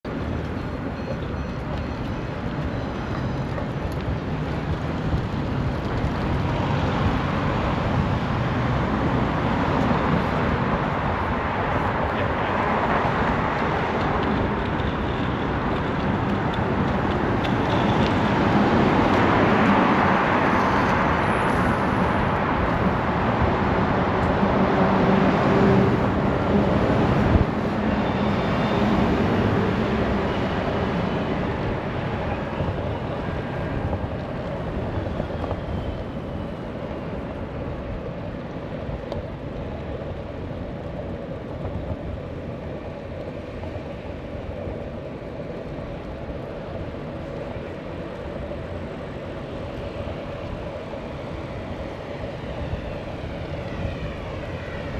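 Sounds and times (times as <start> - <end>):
passing cars: 0.1 - 54.9.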